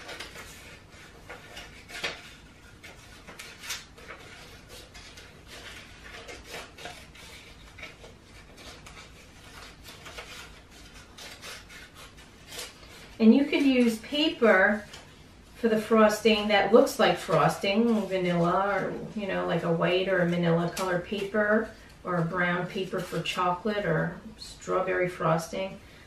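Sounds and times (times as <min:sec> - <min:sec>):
scissors cutting paper: 0:00.0 - 0:15.1, 0:15.9 - 0:23.8
paper rustling: 0:00.0 - 0:23.7.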